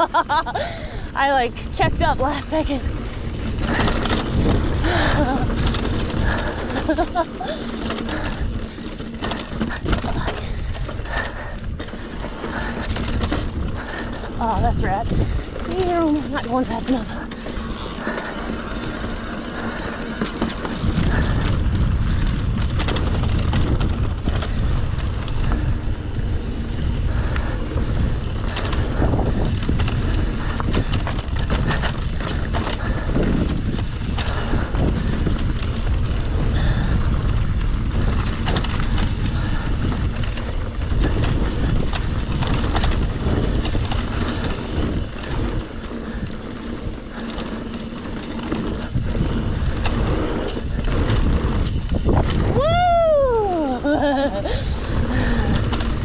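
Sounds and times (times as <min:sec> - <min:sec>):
bike rattle: 0:00.0 - 0:56.0
bike tyres on dirt and rock: 0:00.0 - 0:56.0
wind buffeting microphone: 0:00.0 - 0:56.0.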